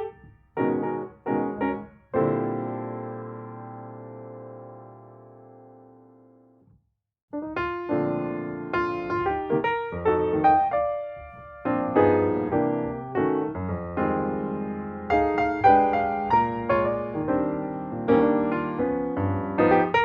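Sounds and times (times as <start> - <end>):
melodic piano music: 0.0 - 6.5, 7.4 - 20.0.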